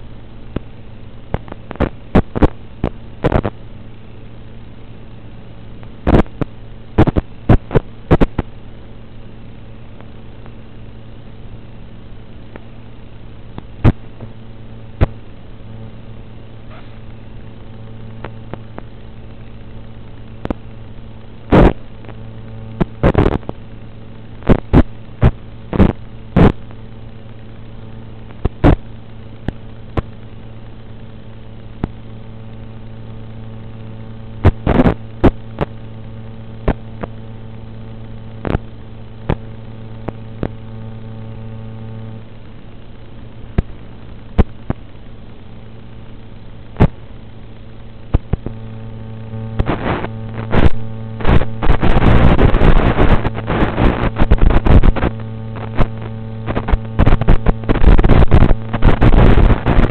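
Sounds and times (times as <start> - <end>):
low electrical hum: 0.0 - 59.9
sharp crackling pops: 0.4 - 3.6, 5.8 - 8.6, 13.5 - 15.9, 16.5 - 59.9.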